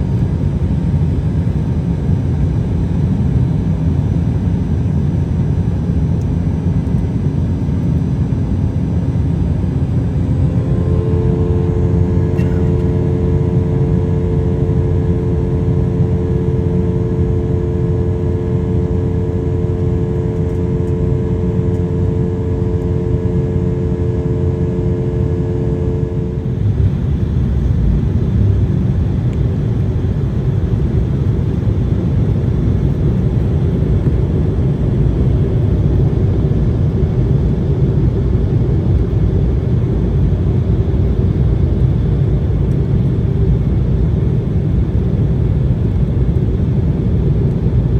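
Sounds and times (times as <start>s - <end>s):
jet engine cabin rumble: 0.0s - 47.9s
steady hum of tones: 0.0s - 47.9s.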